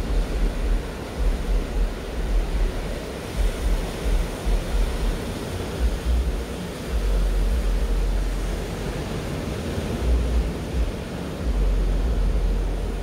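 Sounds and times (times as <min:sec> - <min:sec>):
ocean surf breaking: 0:00.0 - 0:13.0
wind gusting on microphone: 0:00.0 - 0:13.0.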